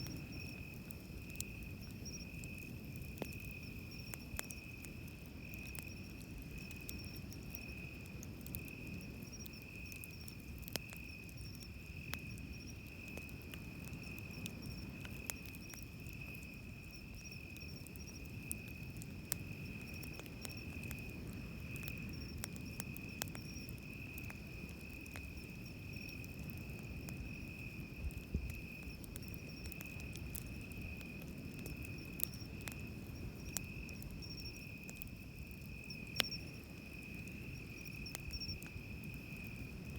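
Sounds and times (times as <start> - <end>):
campfire crackling: 0.0 - 39.9
insects trilling: 0.0 - 39.9.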